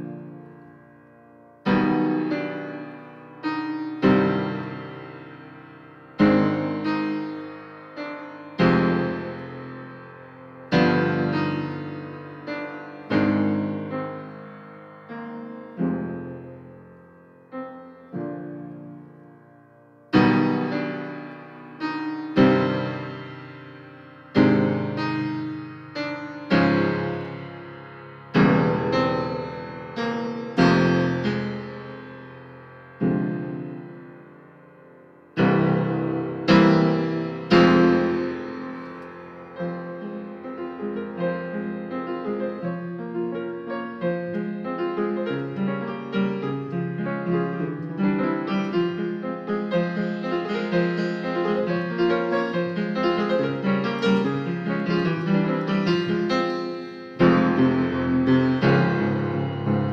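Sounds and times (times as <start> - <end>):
slow piano chords: 0.0 - 59.9.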